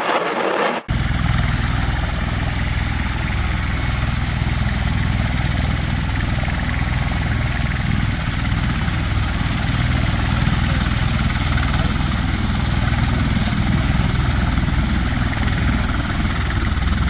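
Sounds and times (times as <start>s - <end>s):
tiltrotor aircraft rotor noise: 0.0s - 17.0s.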